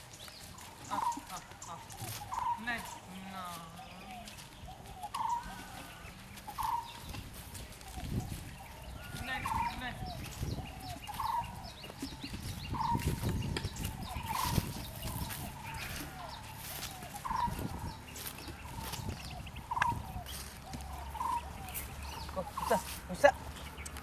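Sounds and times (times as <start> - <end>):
bird calling: 0.0 - 24.0
light bird chirps: 0.0 - 24.0.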